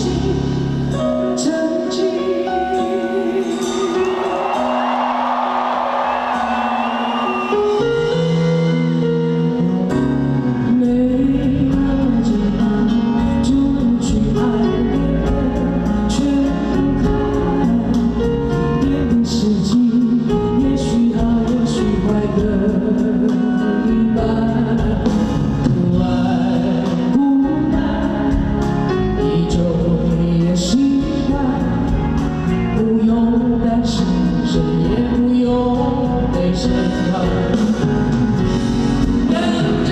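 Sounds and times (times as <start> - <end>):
pop-rock band with singing: 0.0 - 39.9.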